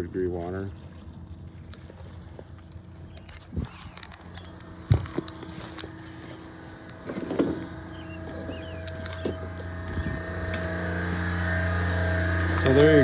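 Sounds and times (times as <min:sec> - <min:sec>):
refrigeration compressor humming: 0:00.0 - 0:13.0.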